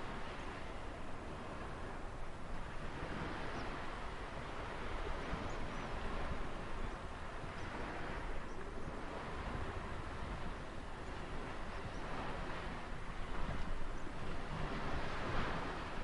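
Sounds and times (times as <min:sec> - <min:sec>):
ocean surf washing in: 0:00.0 - 0:16.0.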